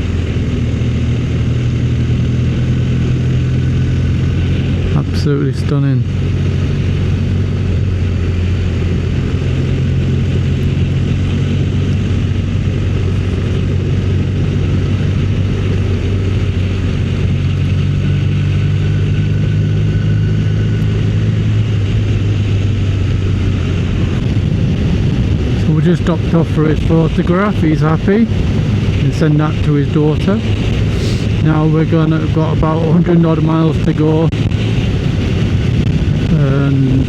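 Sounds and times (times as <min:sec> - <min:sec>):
motorcycle engine cruising: 0:00.0 - 0:37.0
wind rush on microphone: 0:00.0 - 0:37.0.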